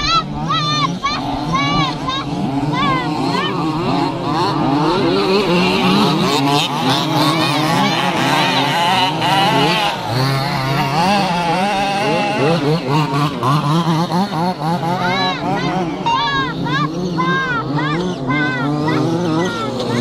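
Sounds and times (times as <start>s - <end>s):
small two-stroke engines revving: 0.0s - 20.0s.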